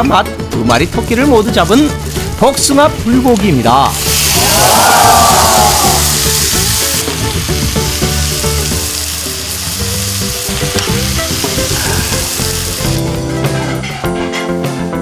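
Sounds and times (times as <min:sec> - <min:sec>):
meat sizzling in a frying pan: 0:00.9 - 0:13.4.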